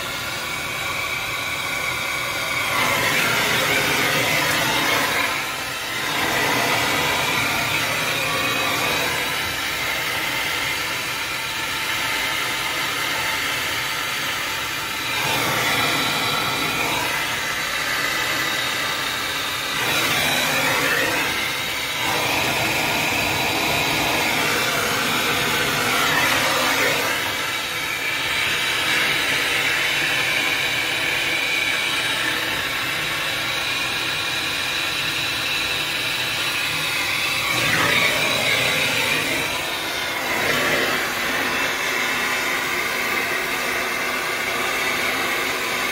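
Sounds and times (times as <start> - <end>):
gas torch flame hissing: 0.0 - 45.9.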